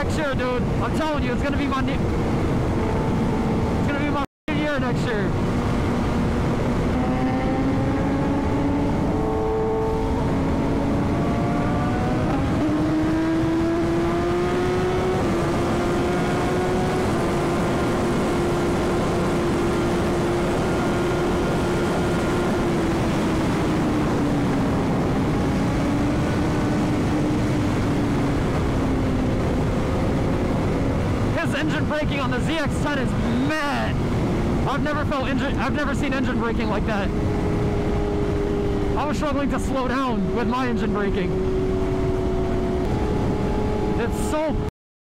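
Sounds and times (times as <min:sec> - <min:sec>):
wind rush: 0:00.0 - 0:44.7
motorcycle engine revving: 0:05.3 - 0:44.7.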